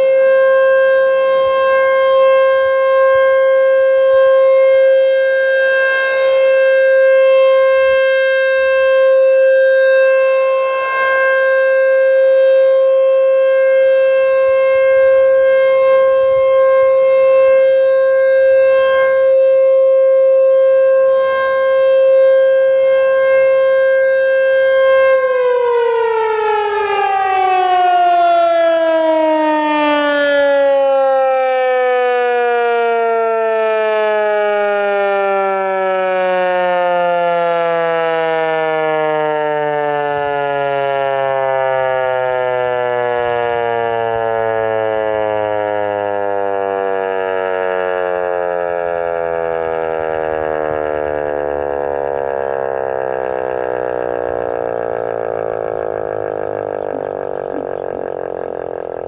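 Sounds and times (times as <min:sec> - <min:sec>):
electronic siren alert tone: 0:00.0 - 0:59.0.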